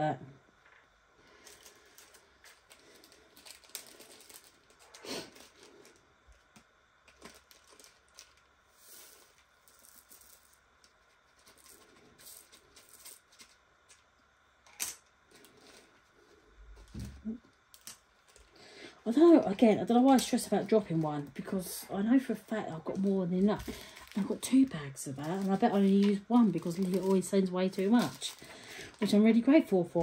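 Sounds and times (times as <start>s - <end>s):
plastic bags crinkling: 1.2s - 13.9s, 14.7s - 30.0s
beads rattling in bags: 1.4s - 14.0s, 14.7s - 16.0s, 19.2s - 29.7s.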